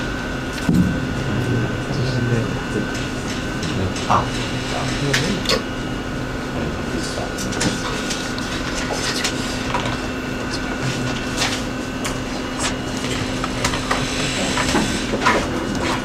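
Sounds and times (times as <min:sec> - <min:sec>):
mechanical room hum: 0:00.0 - 0:16.0.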